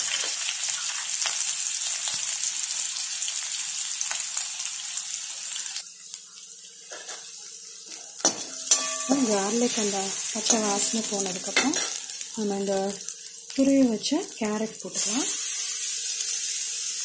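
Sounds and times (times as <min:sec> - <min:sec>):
chillies sizzling in hot oil: 0:00.0 - 0:17.0.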